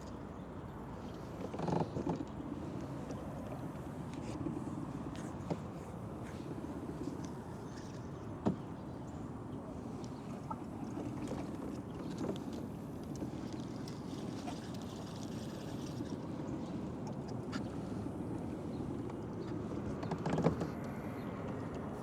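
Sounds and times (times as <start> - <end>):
water around kayak hull: 0.0 - 22.0.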